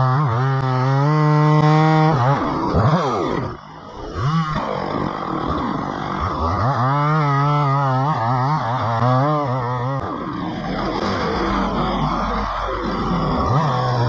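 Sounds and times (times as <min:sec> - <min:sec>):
chainsaw engine running: 0:00.0 - 0:14.0.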